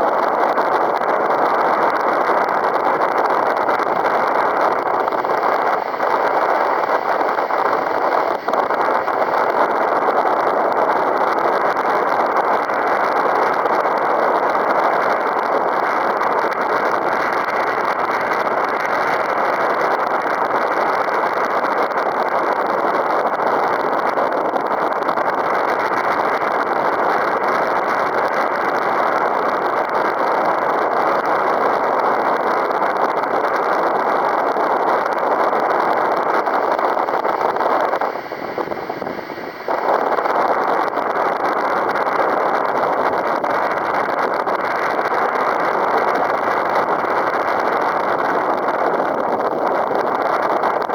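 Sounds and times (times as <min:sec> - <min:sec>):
strong wind buffeting microphone: 0:00.0 - 0:50.9.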